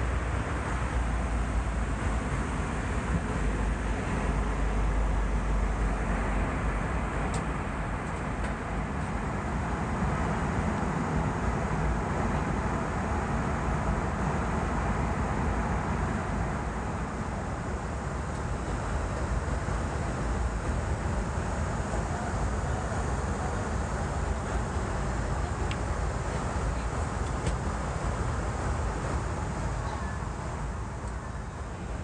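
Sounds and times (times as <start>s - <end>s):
airplane cabin airflow and engine: 0.0s - 32.0s.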